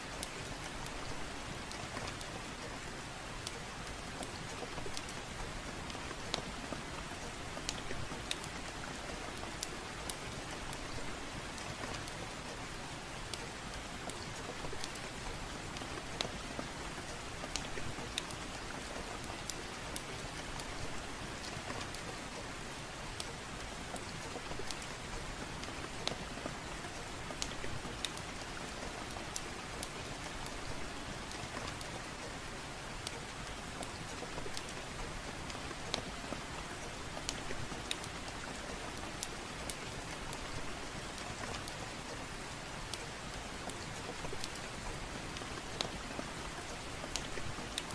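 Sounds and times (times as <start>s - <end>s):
soft rain falling: 0.0s - 47.9s
fireplace crackling: 0.1s - 47.9s.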